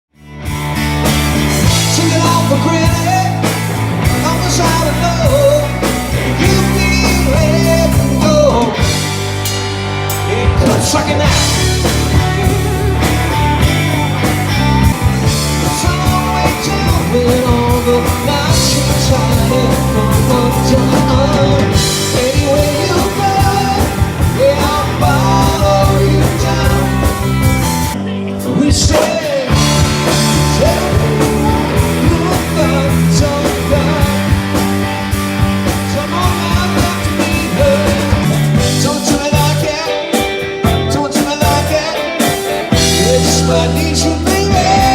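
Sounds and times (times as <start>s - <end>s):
rock song through car stereo: 0.3s - 44.9s.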